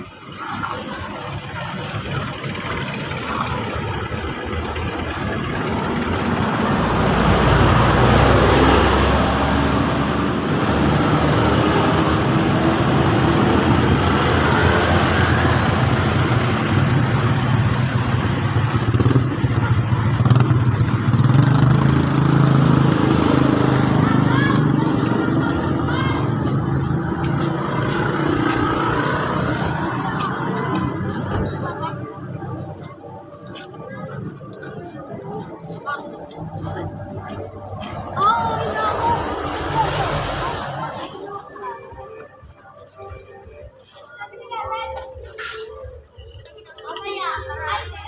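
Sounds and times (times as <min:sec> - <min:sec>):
engine humming: 0:00.0 - 0:48.0.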